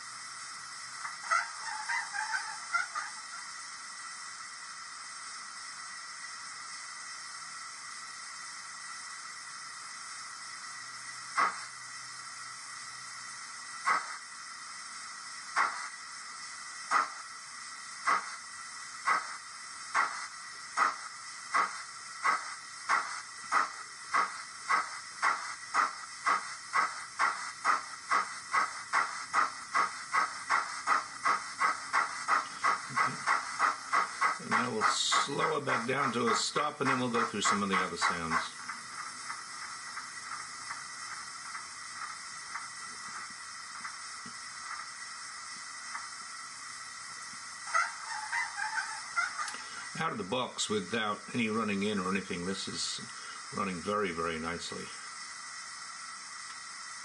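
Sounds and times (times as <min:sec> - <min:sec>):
model locomotive exhaust chuffs: 0:00.0 - 0:57.0
steam hiss: 0:00.0 - 0:57.0.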